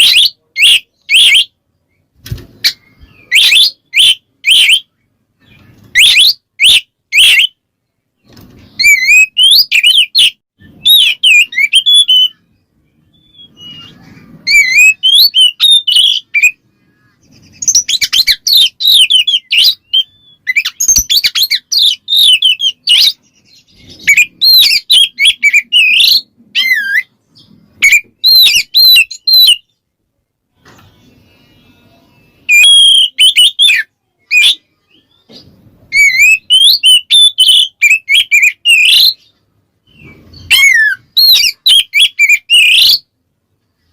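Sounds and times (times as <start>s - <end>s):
bird singing whistled phrases: 0.0s - 1.6s, 2.6s - 7.6s, 8.7s - 29.7s, 31.0s - 35.2s, 35.9s - 43.1s.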